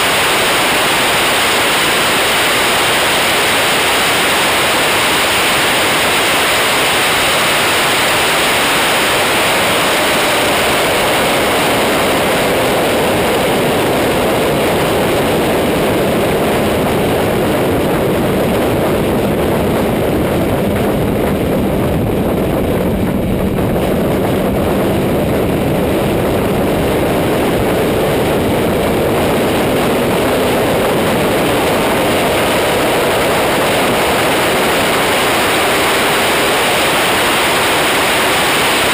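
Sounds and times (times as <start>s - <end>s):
loud wind rush: 0.0s - 38.9s
motorcycle engine: 0.0s - 38.9s.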